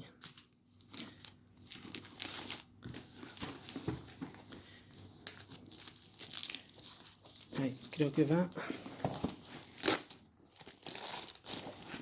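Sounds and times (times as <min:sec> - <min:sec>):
plastic wrap crinkling and tearing: 0:00.3 - 0:12.0.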